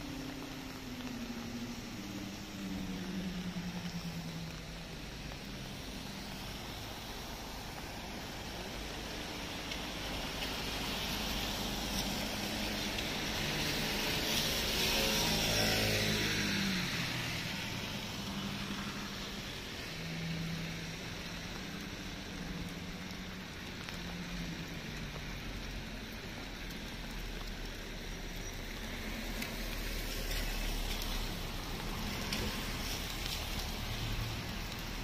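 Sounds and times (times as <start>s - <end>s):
distant traffic hum: 0.0s - 35.0s
light rain on wet paving: 0.0s - 35.0s.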